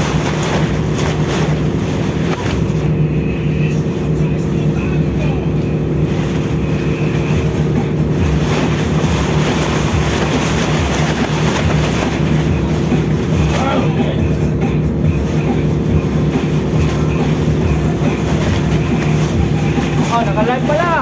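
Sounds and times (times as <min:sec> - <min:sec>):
ship machinery droning: 0:00.0 - 0:21.0.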